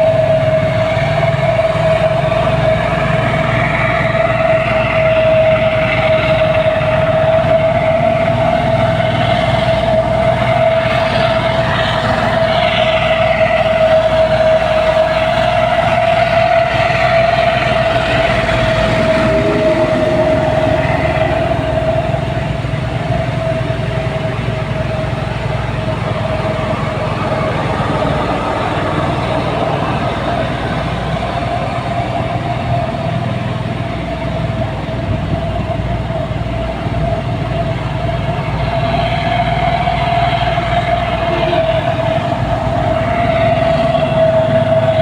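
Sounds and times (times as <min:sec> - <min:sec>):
diesel engine rumble: 0:00.0 - 0:45.0
high-pitched machinery whine: 0:00.0 - 0:45.0.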